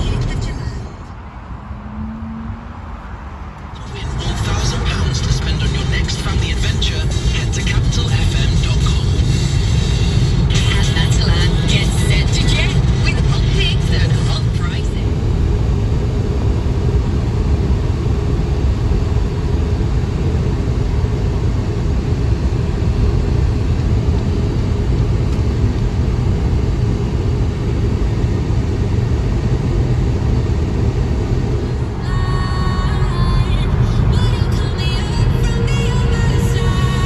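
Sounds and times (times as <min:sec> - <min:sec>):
road and tyre noise in car: 0:00.0 - 0:37.0.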